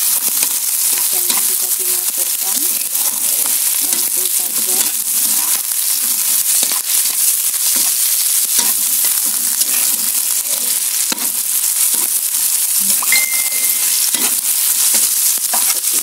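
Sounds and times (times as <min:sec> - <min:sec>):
food sizzling in hot oil: 0:00.0 - 0:16.0
metal spatula scraping wok: 0:00.2 - 0:12.5, 0:13.6 - 0:16.0.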